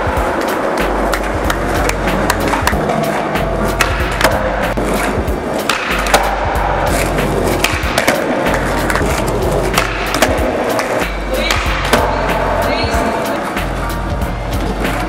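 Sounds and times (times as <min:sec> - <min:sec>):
skateboard clacking on ground: 0:00.0 - 0:13.6
background music: 0:00.0 - 0:15.0
skateboard rolling on concrete: 0:00.0 - 0:15.0.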